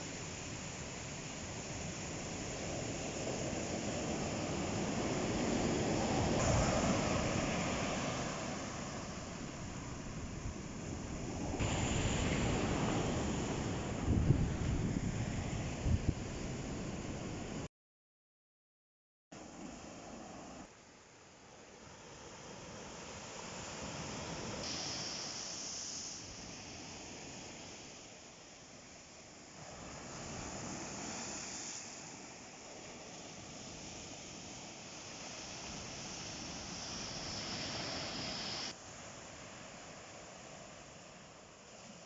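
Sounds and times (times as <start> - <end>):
ocean waves breaking on shore: 0.0 - 17.7, 21.5 - 42.0.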